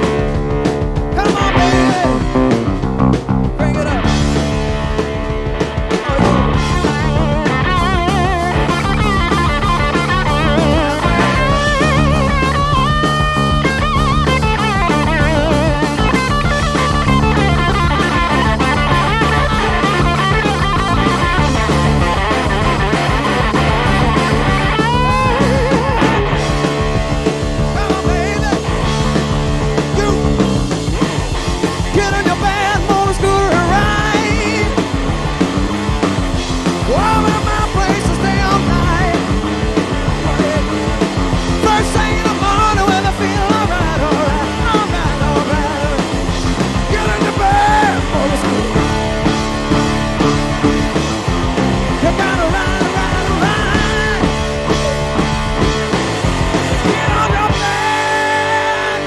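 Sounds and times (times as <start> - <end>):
bass guitar: 0.0 - 59.0
drum kit: 0.0 - 59.0
electric guitar solo: 0.0 - 59.0.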